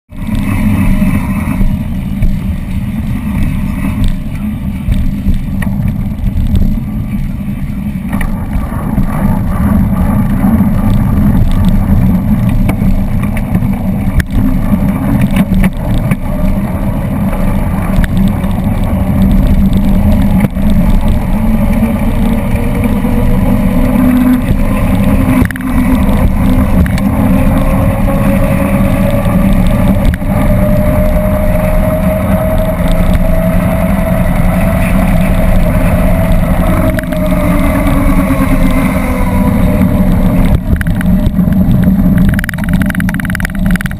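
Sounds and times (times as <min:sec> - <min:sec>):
tyre and road noise: 0:00.0 - 0:43.9
wind rushing over microphone: 0:00.1 - 0:43.9.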